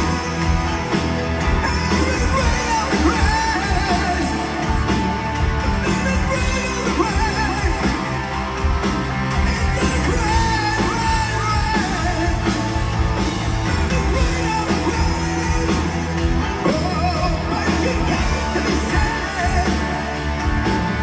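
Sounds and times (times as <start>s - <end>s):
bending lead guitar melody: 0.0s - 21.0s
heavy metal band playing: 0.0s - 21.0s.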